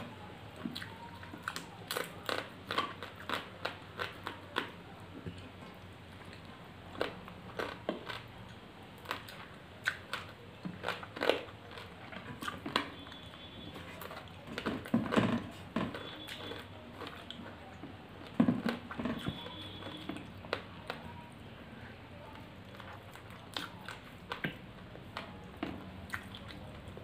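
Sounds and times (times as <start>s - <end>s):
chewing and mouth smacks: 0.6s - 17.9s, 22.6s - 27.0s.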